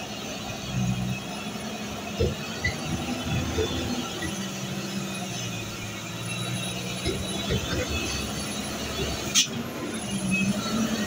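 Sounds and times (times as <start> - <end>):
diesel truck engine at low revs: 0.0 - 11.0.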